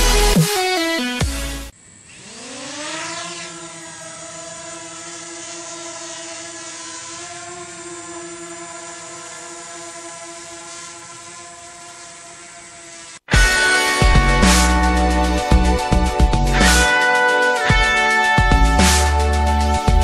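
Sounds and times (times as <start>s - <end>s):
drone propellers whining: 1.2s - 20.0s.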